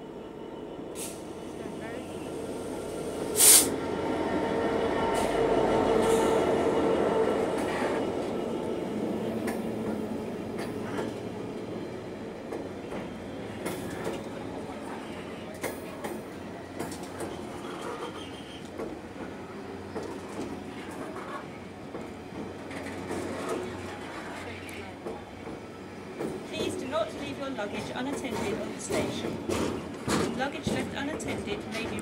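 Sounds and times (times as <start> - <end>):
diesel locomotive engine passing: 0.0 - 32.0.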